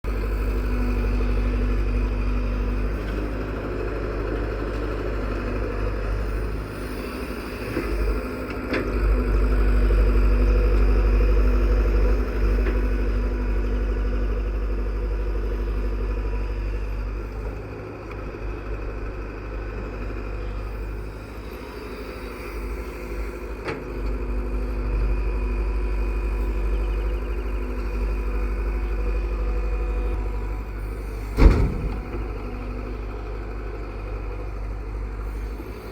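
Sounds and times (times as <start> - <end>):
diesel machinery rumbling: 0.0 - 35.9.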